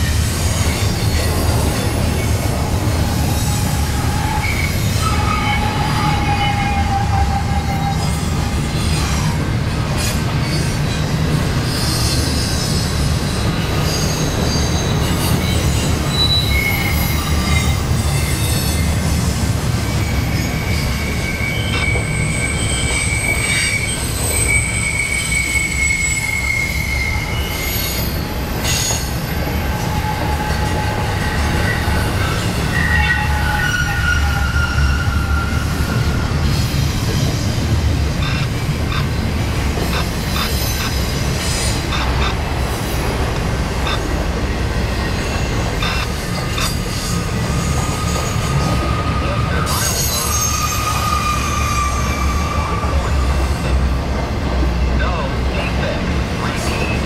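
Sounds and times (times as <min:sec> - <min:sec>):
wheel flanges squealing: 0:00.0 - 0:53.8
freight train rumbling past: 0:00.0 - 0:57.0.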